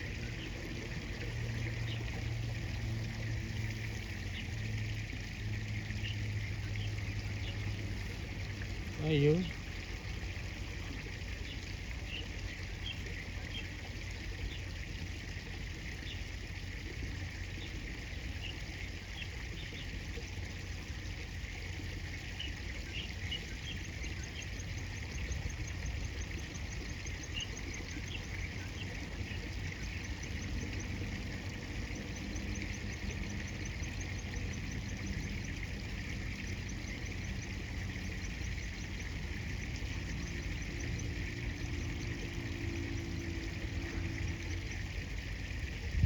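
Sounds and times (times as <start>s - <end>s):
birds chirping: 0.0s - 46.0s
river water running: 0.0s - 46.0s.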